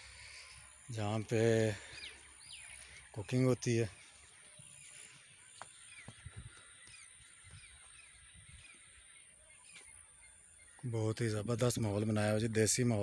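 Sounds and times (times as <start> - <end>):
bird chirping: 0.0 - 13.0
faint outdoor ambience: 0.0 - 13.0.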